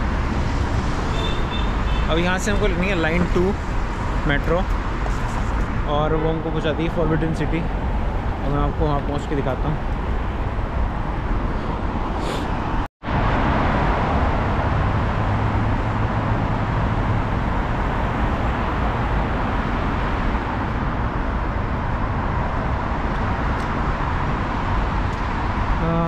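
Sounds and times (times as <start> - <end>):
city traffic rush: 0.0 - 26.0.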